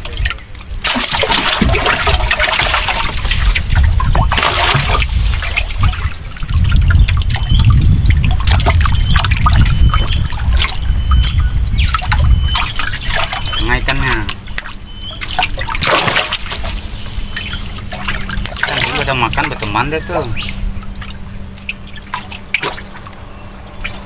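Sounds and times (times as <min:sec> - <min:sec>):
water sloshing and trickling: 0:00.0 - 0:24.0
heavy low rumble: 0:01.6 - 0:24.0.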